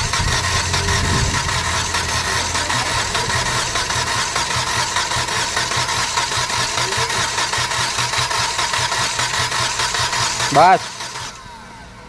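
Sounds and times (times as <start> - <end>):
diesel engine running unevenly: 0.0 - 12.0.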